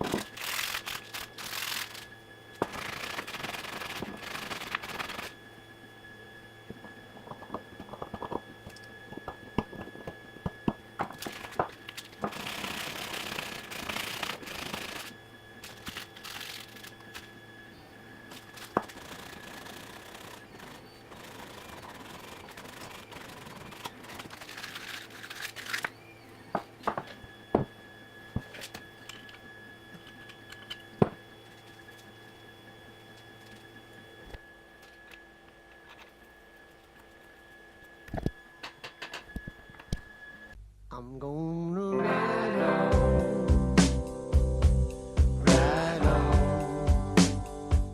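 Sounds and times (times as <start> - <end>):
faint hum and whine: 0.0 - 47.9.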